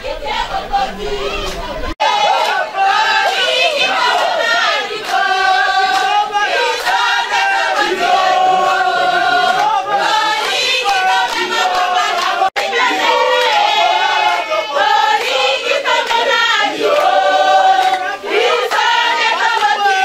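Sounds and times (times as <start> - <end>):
women singing together: 0.0 - 20.0.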